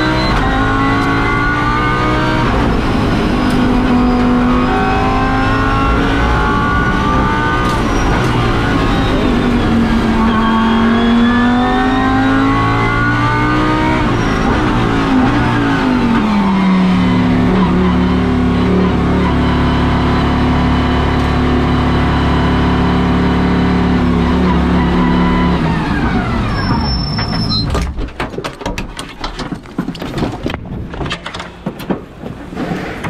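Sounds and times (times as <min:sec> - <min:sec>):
car engine running: 0:00.0 - 0:26.7.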